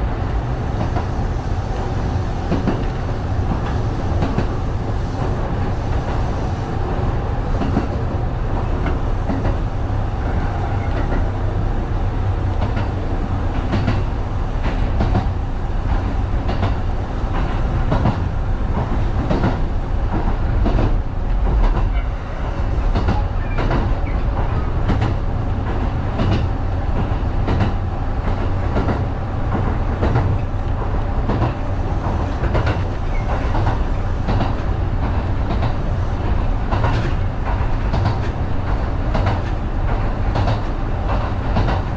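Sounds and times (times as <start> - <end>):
electric train rumbling: 0.0 - 41.9.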